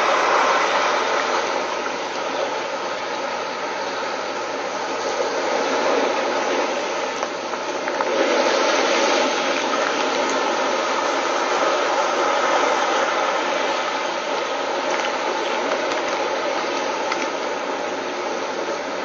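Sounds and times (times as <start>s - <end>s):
waves breaking on rocky shore: 0.0s - 19.0s.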